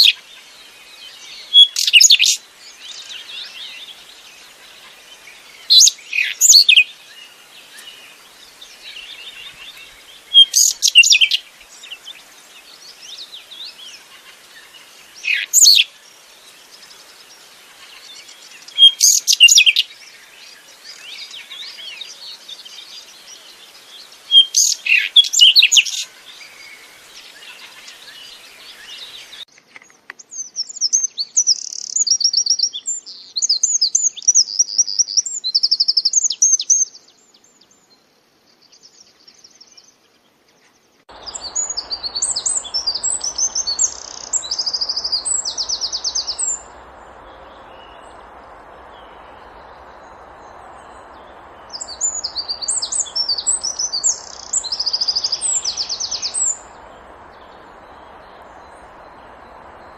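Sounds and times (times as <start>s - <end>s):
birds chirping and twittering: 0.0s - 59.9s
steady hiss: 0.1s - 32.1s, 35.2s - 59.9s.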